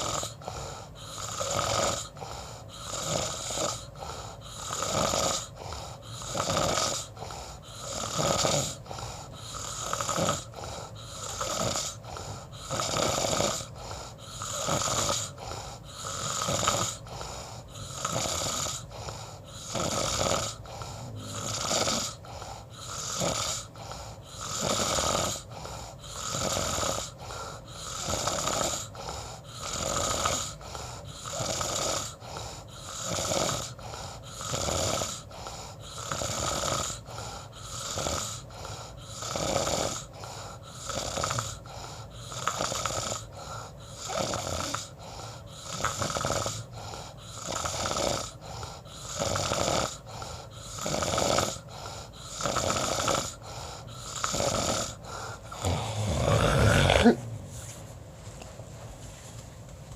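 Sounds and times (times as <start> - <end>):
person snoring: 0.0 - 57.7.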